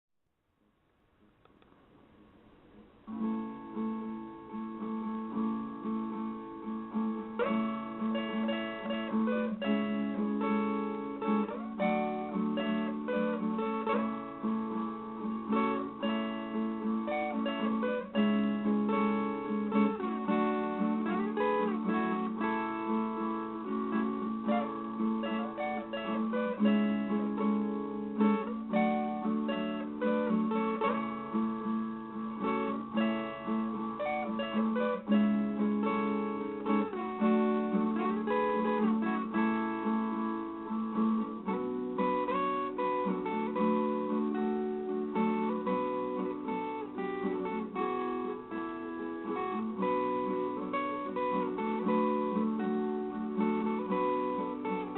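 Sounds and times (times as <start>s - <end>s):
plucked guitar melody: 3.0s - 54.9s.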